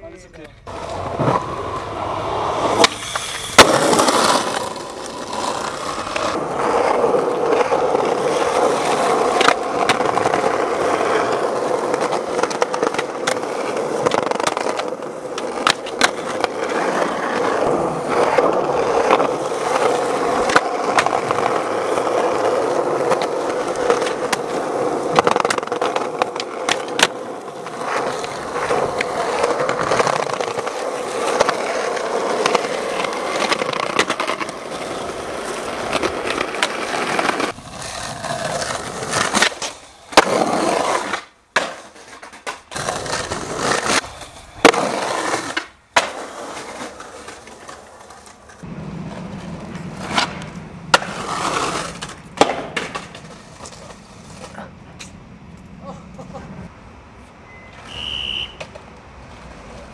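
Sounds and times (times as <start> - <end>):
skateboard wheels rolling on concrete: 0.0 - 59.9
skateboard scraping on concrete: 0.3 - 56.7, 57.8 - 59.9
skateboard clacks: 0.4 - 55.2, 57.8 - 59.9.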